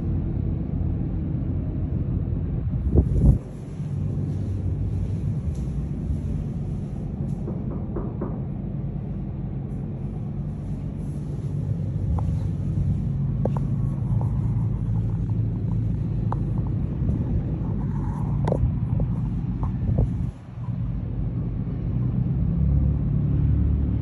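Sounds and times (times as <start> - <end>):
ship machinery rumble and hum: 0.0 - 24.0.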